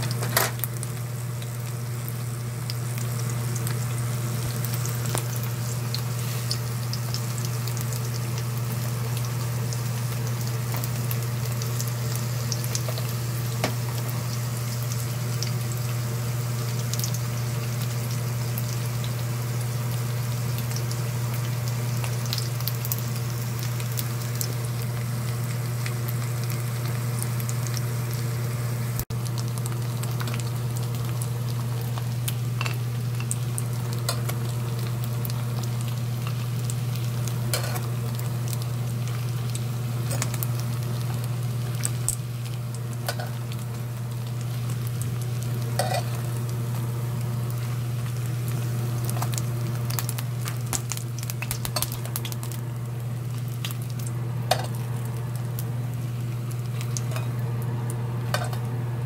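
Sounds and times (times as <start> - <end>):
constant low hum: 0.0 - 59.0
pork sizzling in oil: 0.0 - 59.0.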